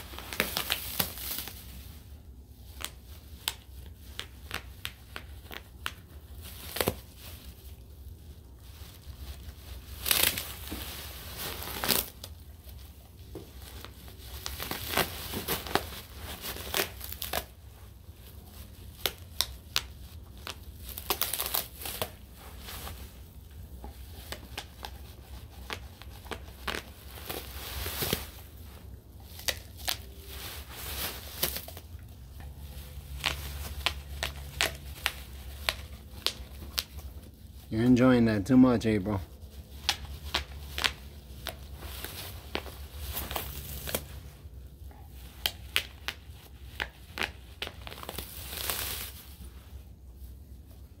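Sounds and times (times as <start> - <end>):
bubble wrap popping: 0.0 - 37.7, 39.3 - 49.8
dog tearing bubble wrap: 0.0 - 37.8, 39.2 - 49.8.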